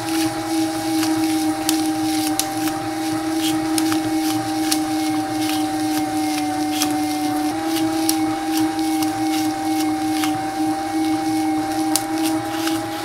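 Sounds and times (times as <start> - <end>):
meat grinder motor hum: 0.0 - 13.0
sharp crackles of crushing: 0.0 - 13.0.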